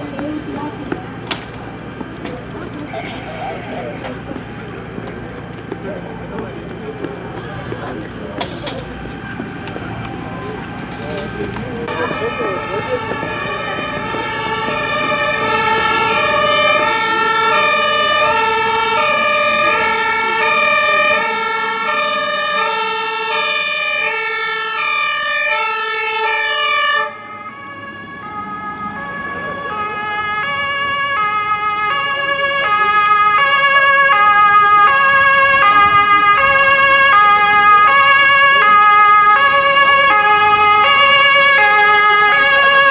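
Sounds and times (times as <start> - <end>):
fire engine two-tone siren: 0.0 - 42.9.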